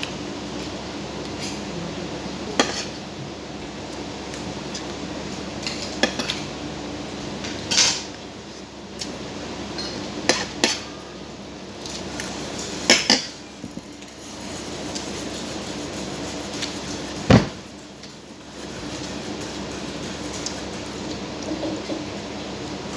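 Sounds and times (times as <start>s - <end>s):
steady background hum: 0.0s - 22.9s.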